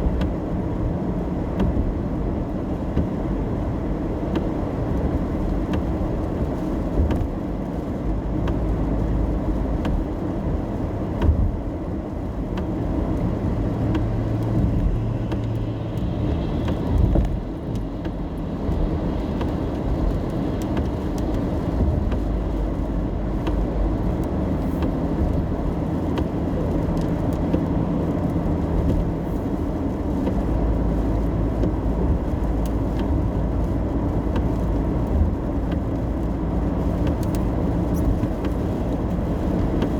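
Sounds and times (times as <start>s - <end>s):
car road rumble: 0.0s - 39.9s
raindrops ticking on car: 0.0s - 39.9s.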